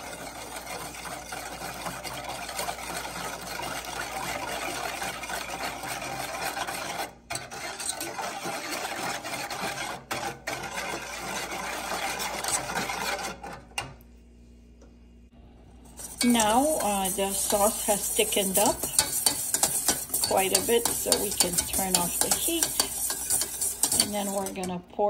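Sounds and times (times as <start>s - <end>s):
whisk scraping metal saucepan: 0.0s - 14.0s, 15.8s - 24.8s.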